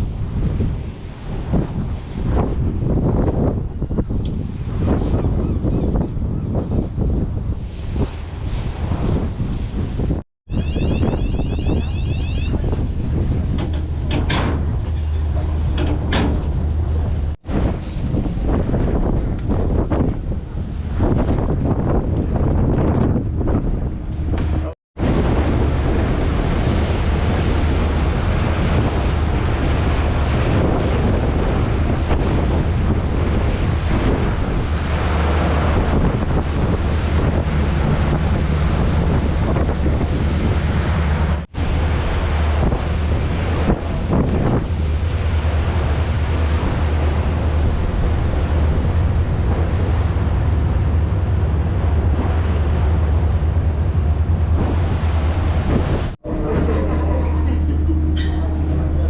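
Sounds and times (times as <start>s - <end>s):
choppy water: 0.0s - 59.0s
wind buffeting microphone: 0.0s - 59.0s
ferry engine drone: 10.5s - 59.0s.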